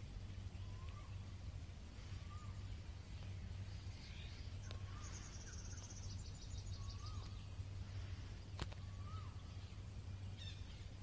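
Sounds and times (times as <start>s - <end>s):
insect trilling: 0.0s - 11.0s
bird calling: 0.3s - 1.4s, 2.0s - 11.0s.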